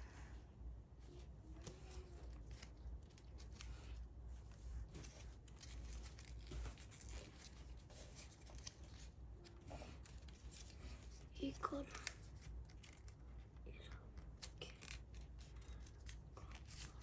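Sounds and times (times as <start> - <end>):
paper rustling and crinkling: 1.0 - 17.0.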